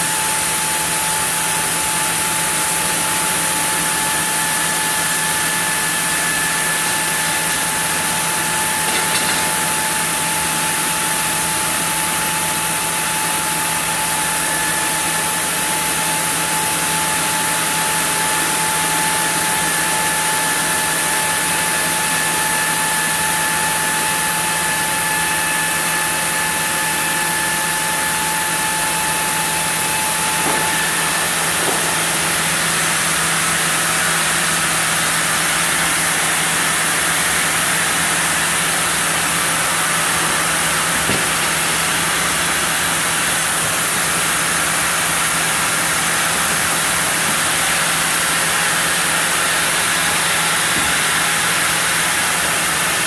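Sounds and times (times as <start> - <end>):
sawmill saw cutting wood: 0.0 - 53.0.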